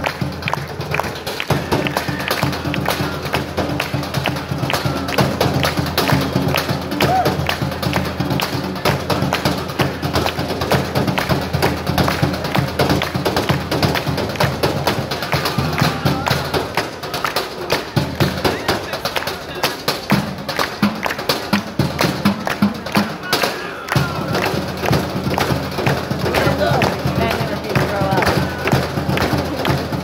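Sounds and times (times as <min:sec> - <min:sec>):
drumsticks drumming on metal cans: 0:00.0 - 0:30.0.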